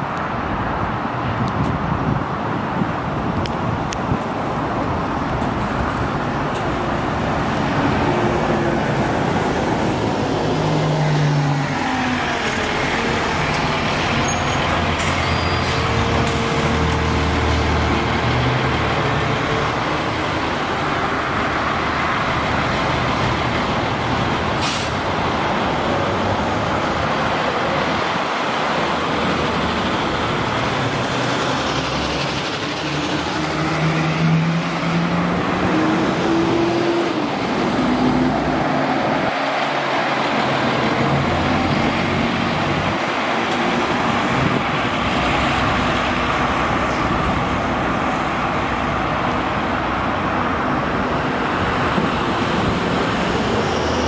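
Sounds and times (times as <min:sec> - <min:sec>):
bus driving and idling: 0:00.0 - 0:54.0.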